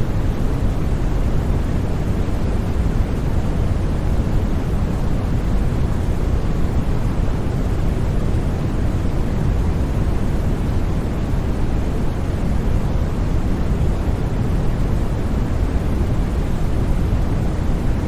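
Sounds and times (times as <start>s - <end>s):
white noise hiss: 0.0s - 18.0s.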